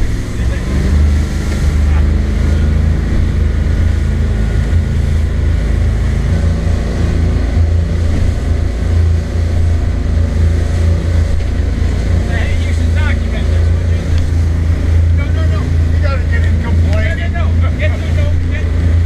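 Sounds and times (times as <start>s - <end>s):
hull and water noise: 0.0s - 19.0s
motorboat engine drone: 0.0s - 19.0s.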